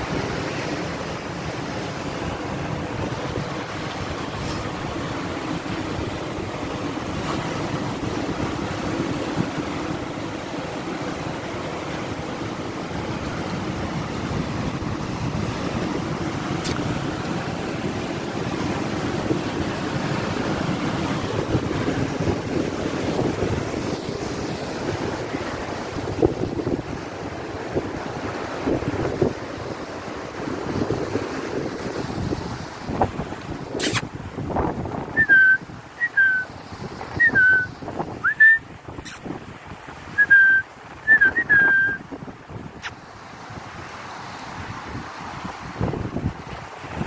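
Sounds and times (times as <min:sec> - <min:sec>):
surf breaking on rocks: 0:00.0 - 0:47.0
wind buffeting microphone: 0:00.0 - 0:47.0.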